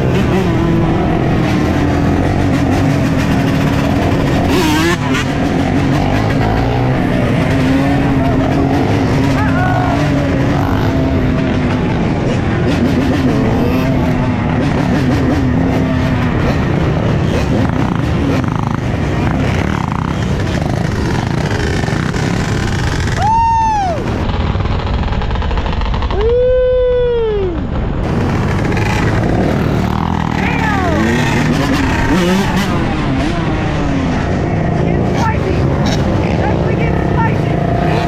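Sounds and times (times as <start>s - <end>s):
dirt bike revving: 0.0s - 26.4s, 27.9s - 38.0s
dirt bike engines running: 0.0s - 38.0s.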